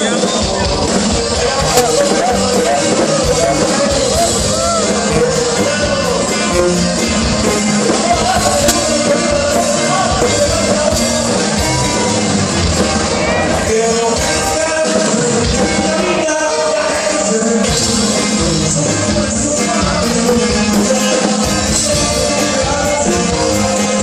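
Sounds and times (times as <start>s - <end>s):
rock music with singing: 0.0s - 24.0s.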